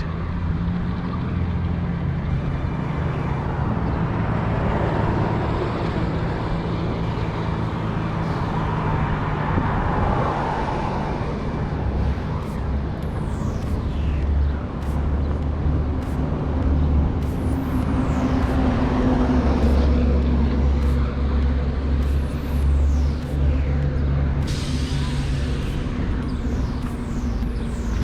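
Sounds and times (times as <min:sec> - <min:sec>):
low engine drone: 0:00.0 - 0:28.0
road noise: 0:00.0 - 0:28.0.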